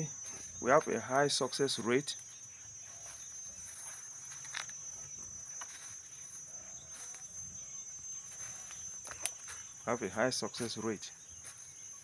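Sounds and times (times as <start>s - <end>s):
insect trilling: 0.0s - 12.0s.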